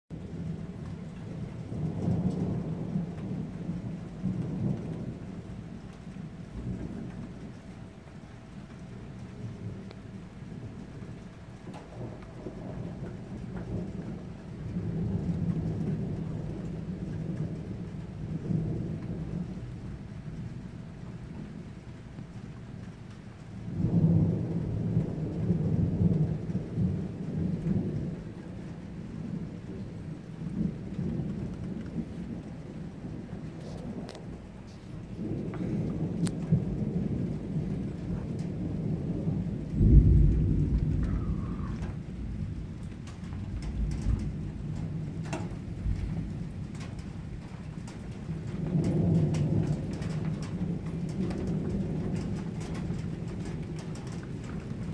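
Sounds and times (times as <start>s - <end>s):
thunder rumbling: 0.1s - 54.9s
rain hiss: 0.2s - 54.9s.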